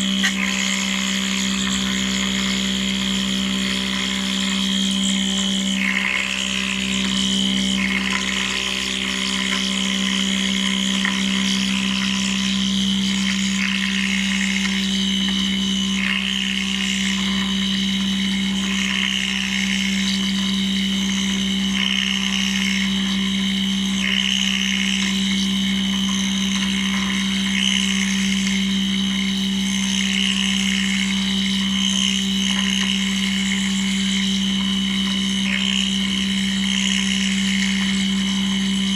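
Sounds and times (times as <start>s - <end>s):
milling machine high whine: 0.0s - 38.9s
milling machine humming: 0.0s - 38.9s.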